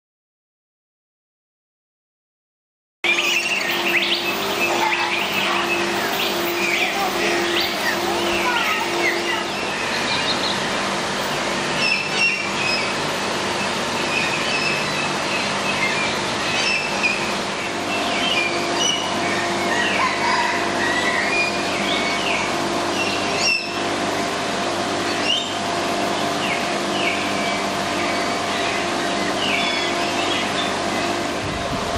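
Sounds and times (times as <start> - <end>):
small birds chirping: 3.0 - 10.8, 11.7 - 24.4, 25.0 - 31.3
low hum: 3.0 - 31.9.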